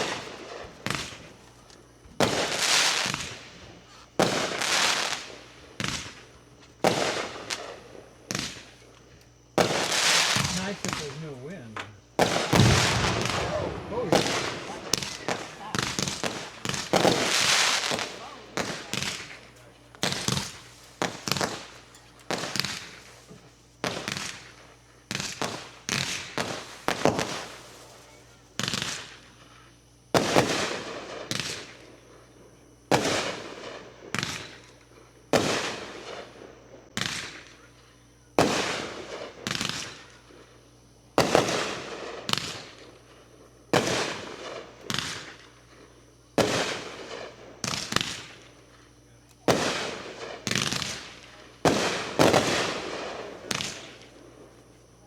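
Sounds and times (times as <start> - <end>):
fireworks bangs with crackle: 0.0 - 29.5, 30.1 - 55.0.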